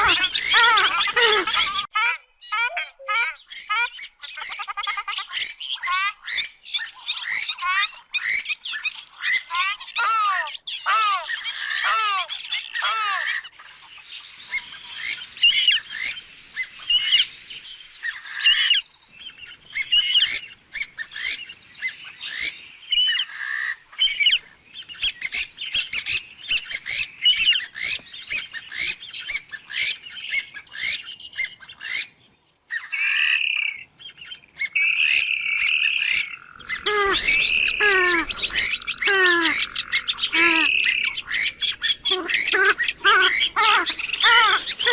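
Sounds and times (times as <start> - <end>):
swamphen harsh squawks: 0.0 - 18.9, 19.6 - 24.4, 25.0 - 32.1, 32.7 - 33.8, 34.6 - 44.9.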